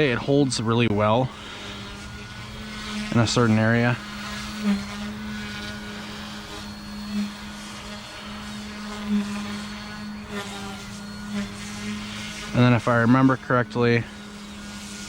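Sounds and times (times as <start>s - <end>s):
rc helicopter hovering hum: 0.0s - 15.0s.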